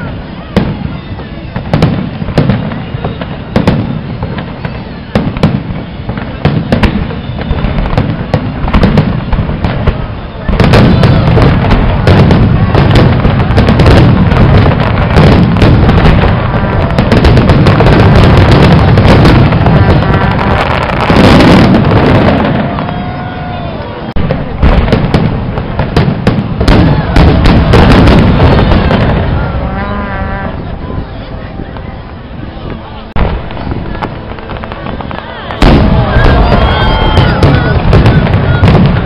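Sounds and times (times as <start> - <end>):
fireworks bursting: 0.0 - 39.0.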